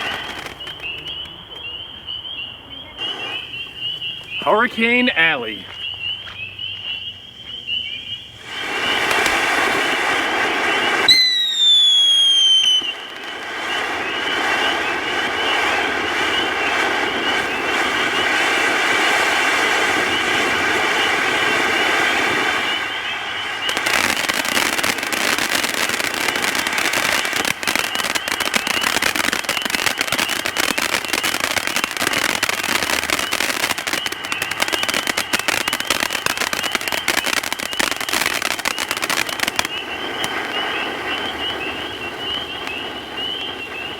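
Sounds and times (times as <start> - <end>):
dense crackling: 0.0 - 1.8, 8.4 - 43.9
firework fountain whistling: 0.0 - 43.9
rushing hiss: 8.4 - 43.8.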